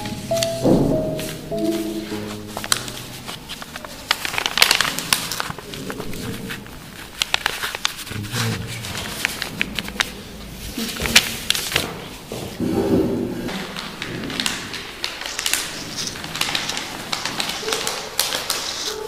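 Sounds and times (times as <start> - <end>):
fabric rustling and crinkling: 0.3 - 12.6, 13.5 - 19.0.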